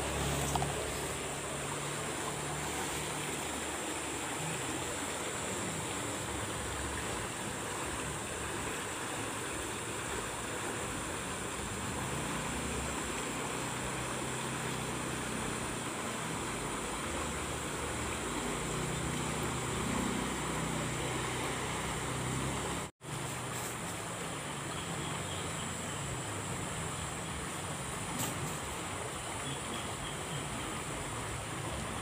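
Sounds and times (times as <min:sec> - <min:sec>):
water rushing along a channel: 0:00.0 - 0:32.0.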